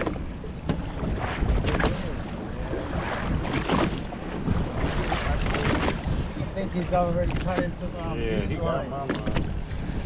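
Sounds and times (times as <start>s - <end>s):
water splashing against boat hull: 0.0s - 10.0s
wind buffeting microphone: 0.0s - 10.0s.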